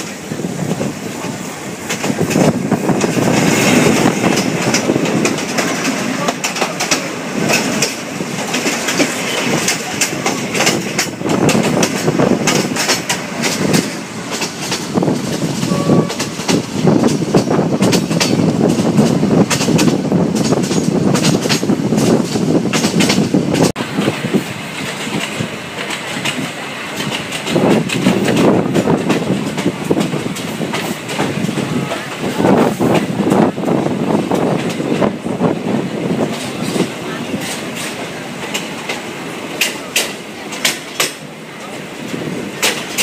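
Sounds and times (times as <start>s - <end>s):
train wheels clattering over rail joints: 0.0s - 43.0s.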